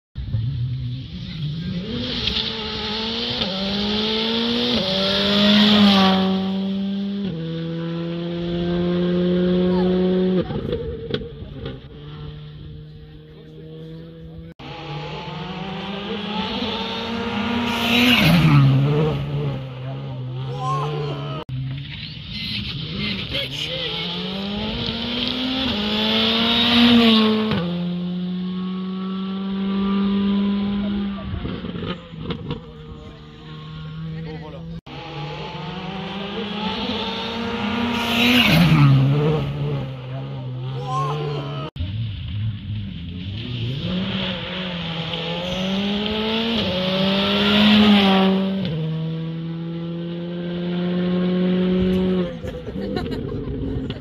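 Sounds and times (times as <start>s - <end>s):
rally car engine accelerating: 0.2s - 54.0s.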